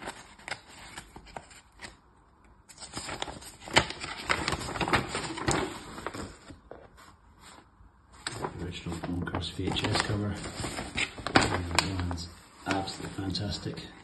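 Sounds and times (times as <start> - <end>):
paper poster rustling and crinkling: 0.0 - 2.0, 2.7 - 14.0.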